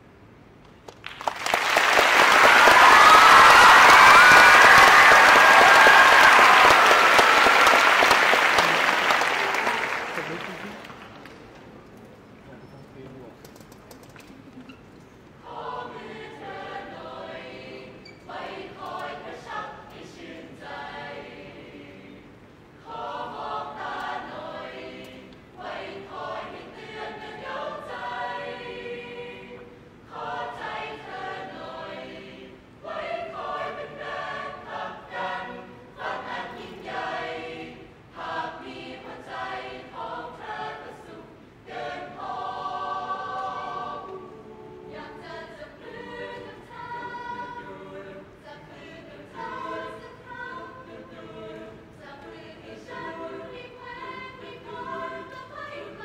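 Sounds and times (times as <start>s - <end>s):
youth choir singing a cappella: 2.2s - 10.0s, 15.4s - 56.0s.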